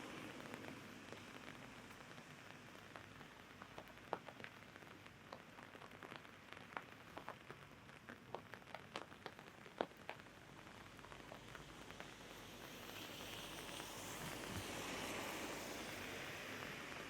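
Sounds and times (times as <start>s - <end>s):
hiss of falling rain: 0.0s - 17.0s
raindrops tapping on umbrella: 0.4s - 17.0s.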